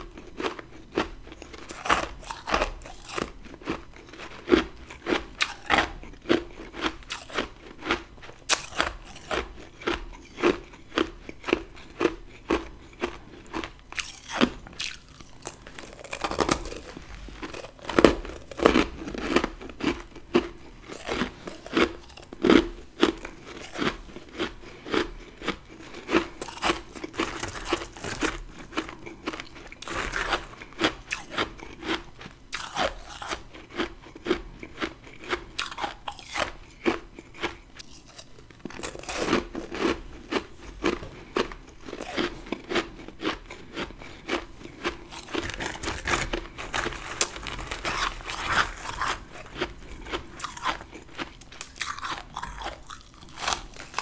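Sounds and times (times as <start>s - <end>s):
chewing crunchy frost: 0.0s - 54.0s.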